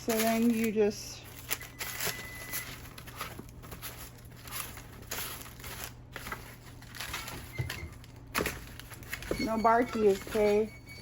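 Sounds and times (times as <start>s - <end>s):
rustling crinkling noises: 0.0s - 11.0s.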